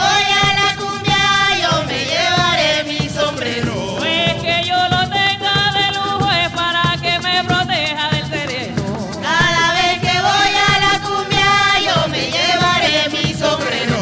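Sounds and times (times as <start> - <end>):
hand drums beating: 0.0 - 14.0
voices singing: 0.0 - 14.0.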